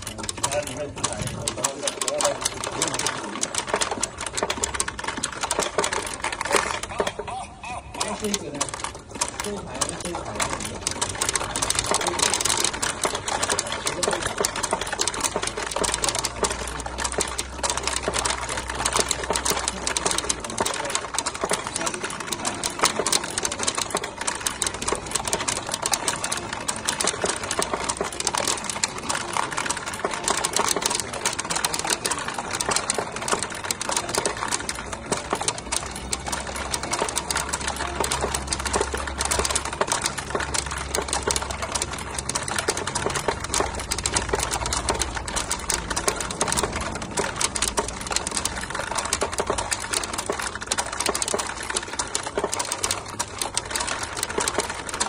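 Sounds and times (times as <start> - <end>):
pachinko balls clattering: 0.0 - 55.0.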